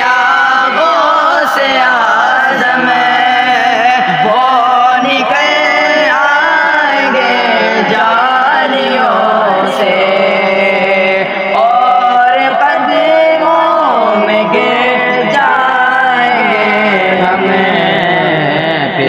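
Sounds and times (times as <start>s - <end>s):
young male voices chanting: 0.0s - 19.0s.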